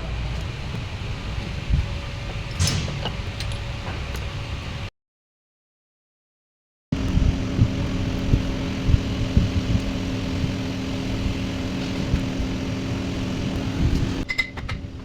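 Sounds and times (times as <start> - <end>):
engine running with low rumble: 0.0 - 4.9, 7.0 - 15.0.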